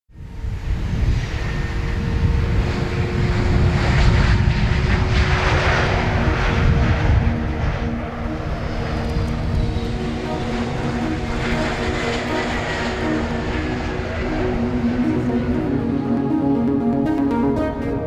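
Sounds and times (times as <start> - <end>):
wind buffeting microphone: 0.2 - 15.0
jet engines roaring: 0.2 - 18.0.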